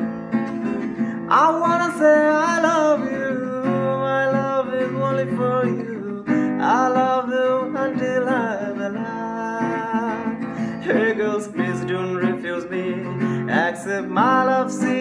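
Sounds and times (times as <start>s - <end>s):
acoustic guitar strummed: 0.0s - 15.0s
man singing: 1.2s - 15.0s.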